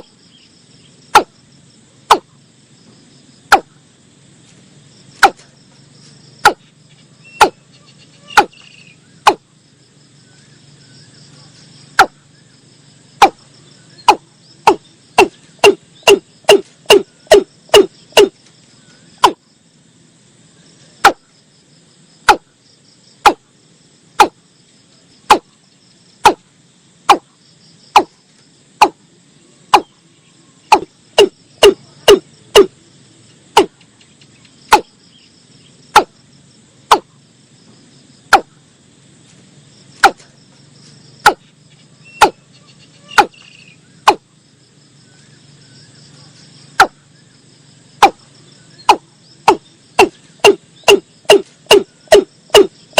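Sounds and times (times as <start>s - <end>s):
insects chirring: 0.0s - 52.9s.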